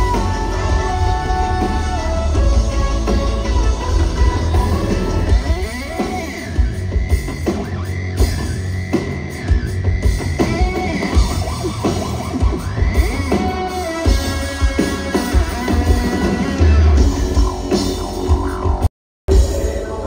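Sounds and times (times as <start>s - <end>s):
live rock music over a pa: 0.0s - 20.0s.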